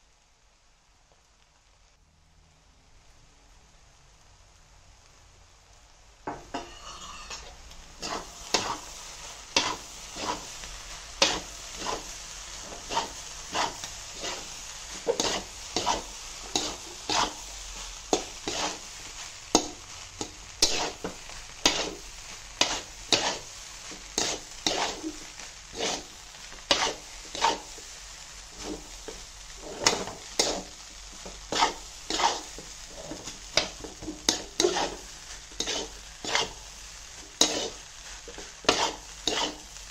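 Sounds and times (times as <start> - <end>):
rice sizzling in a metal pan: 0.0 - 39.9
metal spatula scraping a pan: 6.3 - 39.9.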